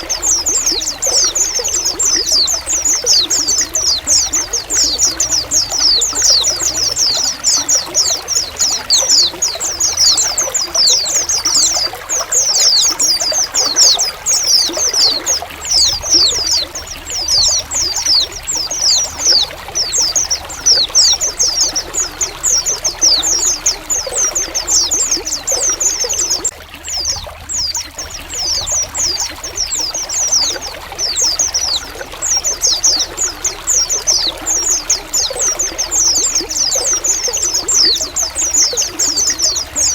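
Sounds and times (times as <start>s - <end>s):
flock of birds chirping: 0.0s - 39.9s
water trickling: 0.0s - 39.9s.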